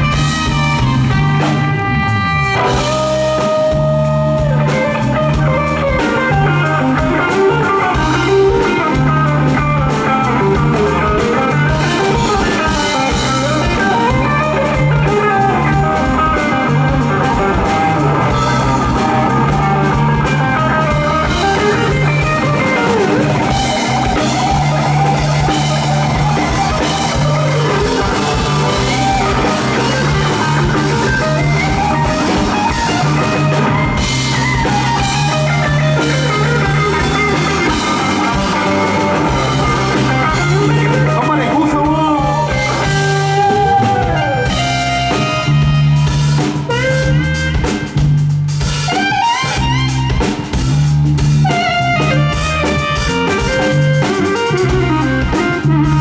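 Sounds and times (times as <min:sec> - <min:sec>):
electric guitar solo: 0:00.0 - 0:56.0
live rock band playing: 0:00.0 - 0:56.0
pulsing bass: 0:00.0 - 0:56.0.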